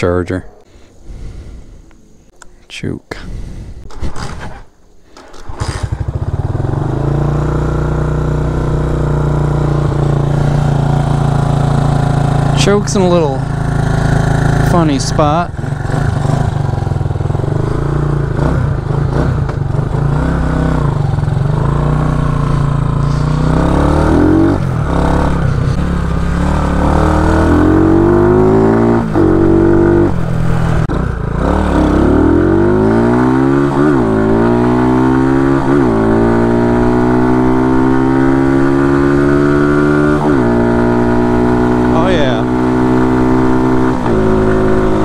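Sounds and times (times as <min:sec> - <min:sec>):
motorcycle engine accelerating: 0:05.2 - 0:45.0.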